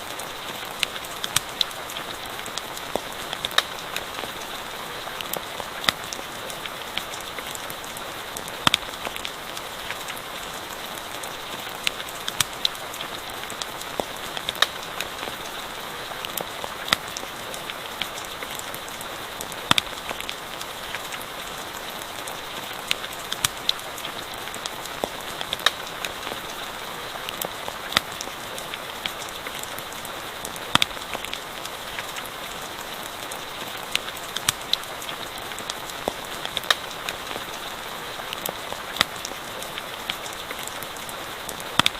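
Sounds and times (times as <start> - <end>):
campfire crackling: 0.0 - 41.9
steady rain: 0.0 - 41.9.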